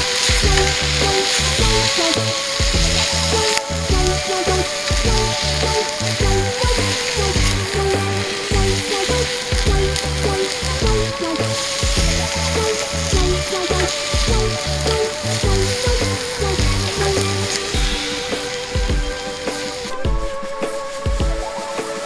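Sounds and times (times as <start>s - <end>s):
food sizzling in a frying pan: 0.0s - 20.0s
background music: 0.0s - 22.0s.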